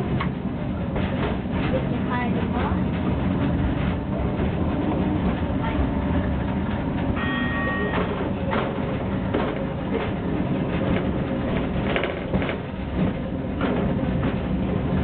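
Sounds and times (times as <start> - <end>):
ride train rumbling on track: 0.0 - 15.0
wheels clicking on rails: 0.0 - 15.0.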